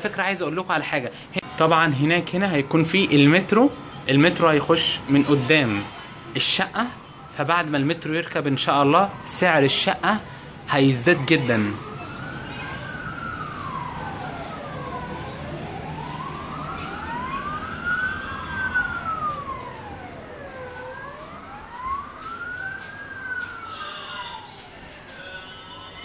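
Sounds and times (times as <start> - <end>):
emergency siren wailing: 1.9 - 26.0
second siren wail: 2.3 - 26.0.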